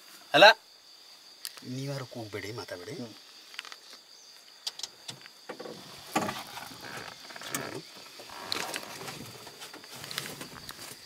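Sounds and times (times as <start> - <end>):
high drone of insects: 0.0 - 11.0.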